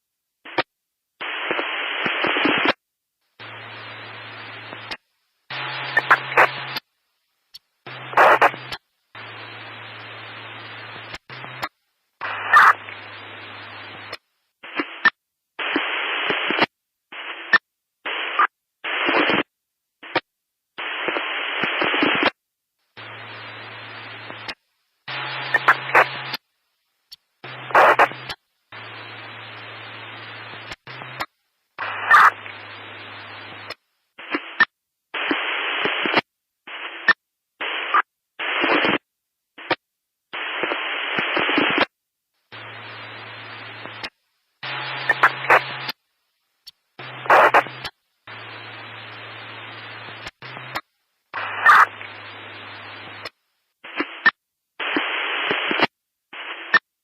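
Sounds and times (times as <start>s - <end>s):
static hiss: 0.0s - 57.0s
crackle: 3.4s - 56.9s.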